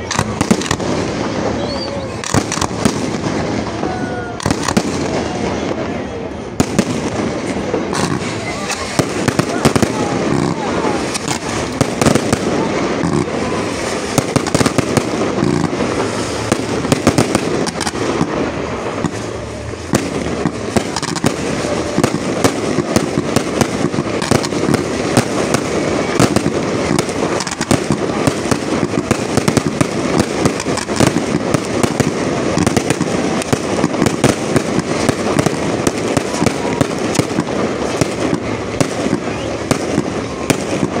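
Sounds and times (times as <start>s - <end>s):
fireworks bangs: 0.0s - 41.0s
fireworks crackling and popping: 0.0s - 41.0s.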